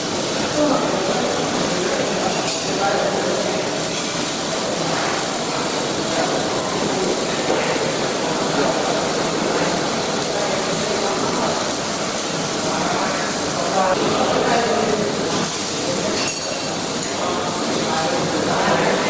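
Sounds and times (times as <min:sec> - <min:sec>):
welding equipment hum and hiss: 0:00.0 - 0:19.0.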